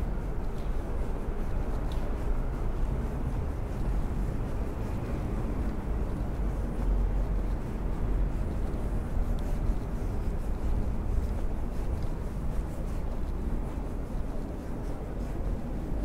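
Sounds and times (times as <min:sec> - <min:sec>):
city street ambience: 0:00.0 - 0:16.0.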